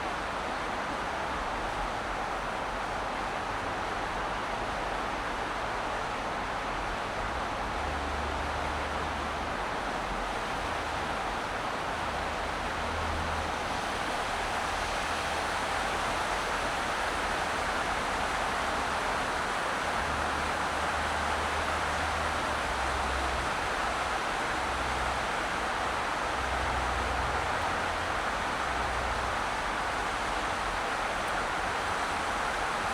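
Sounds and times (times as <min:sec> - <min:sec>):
car road and tyre noise: 0:00.0 - 0:32.9.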